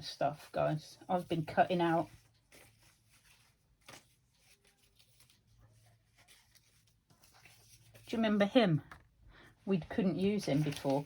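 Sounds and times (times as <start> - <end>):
paper rustling: 0.0 - 9.0, 9.8 - 11.0.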